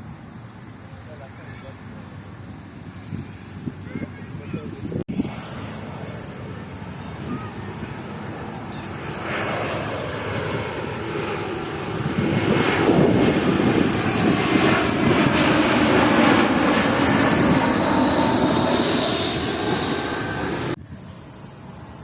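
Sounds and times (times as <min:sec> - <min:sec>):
jet engine roar overhead: 0:00.0 - 0:22.0.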